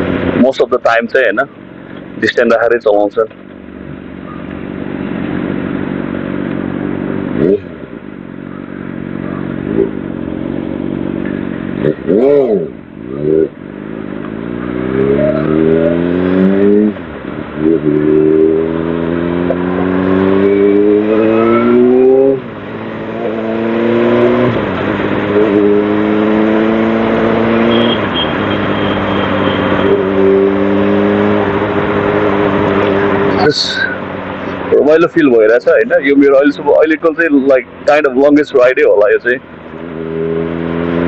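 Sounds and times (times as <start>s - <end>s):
motorcycle engine shifting gears: 3.3s - 35.5s, 38.9s - 41.0s.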